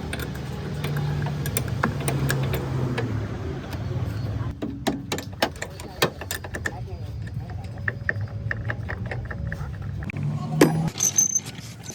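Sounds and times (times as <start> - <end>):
sharp clicks and knocks: 0.0 - 3.9, 4.5 - 10.7
car engine running: 0.0 - 10.9.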